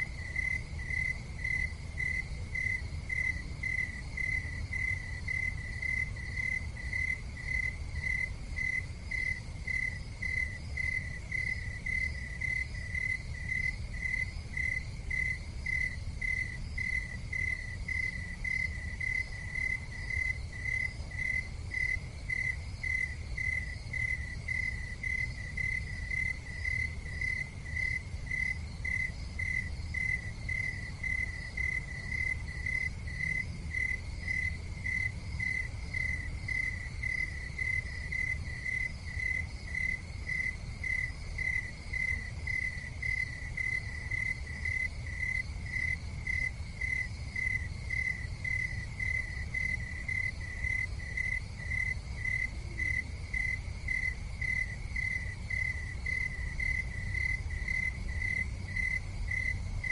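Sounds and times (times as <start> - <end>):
constant low rumble: 0.0 - 59.9
insects chirping: 0.0 - 59.9.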